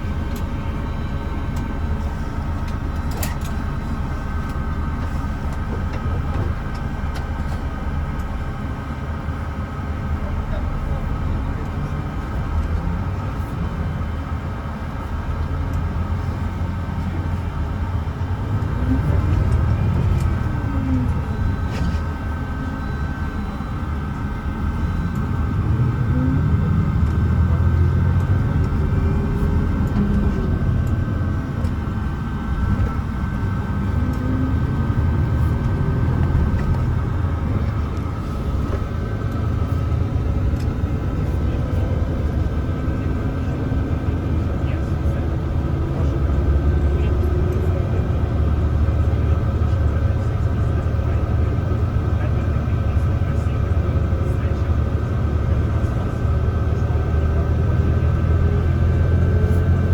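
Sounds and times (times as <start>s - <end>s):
low rumble: 0.0s - 51.2s
bus diesel engine accelerating: 0.0s - 59.9s.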